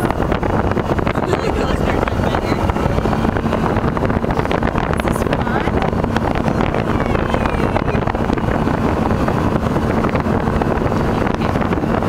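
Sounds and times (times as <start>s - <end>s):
motorboat engine drone: 0.0s - 12.0s
wind buffeting microphone: 0.0s - 12.0s.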